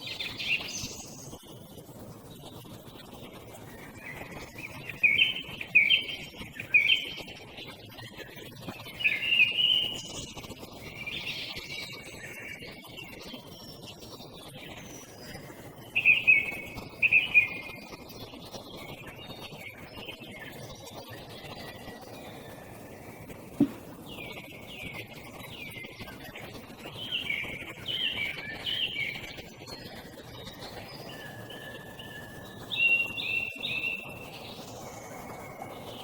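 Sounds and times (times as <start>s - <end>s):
songbird singing: 0.0s - 1.4s, 3.7s - 7.4s, 8.9s - 17.9s, 18.8s - 36.0s
faint small bird calls: 3.6s - 36.0s.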